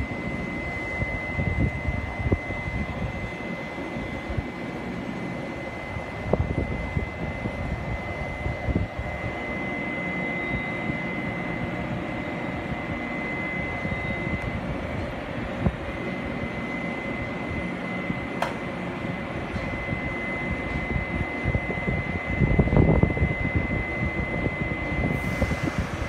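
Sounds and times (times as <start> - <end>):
electric locomotive drone: 0.0 - 26.0
high steady whine: 0.0 - 26.0.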